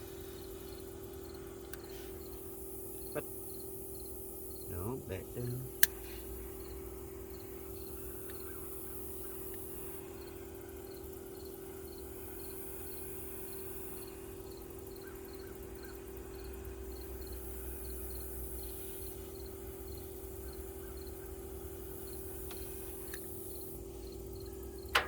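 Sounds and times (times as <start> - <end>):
steady hum: 0.0 - 15.0, 15.6 - 25.0
cricket chirping: 0.0 - 25.0.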